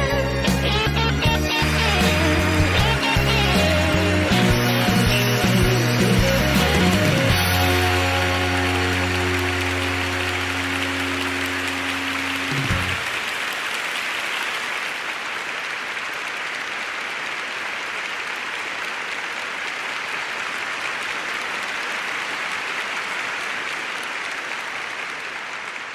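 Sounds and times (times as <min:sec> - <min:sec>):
audience applauding: 0:00.0 - 0:25.9
audience cheering: 0:00.0 - 0:25.9.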